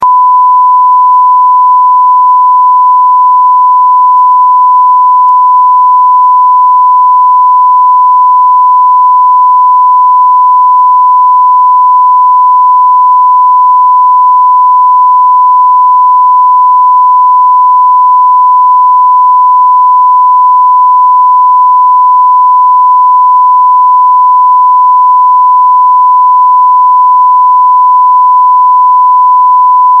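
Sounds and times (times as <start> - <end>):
continuous censor bleep: 0.0 - 30.0.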